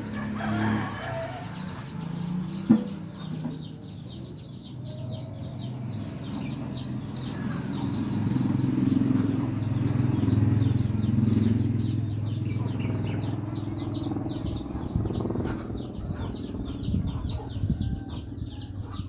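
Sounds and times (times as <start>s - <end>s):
bird chirping rapidly: 0.0s - 19.0s
low engine hum: 0.0s - 19.0s.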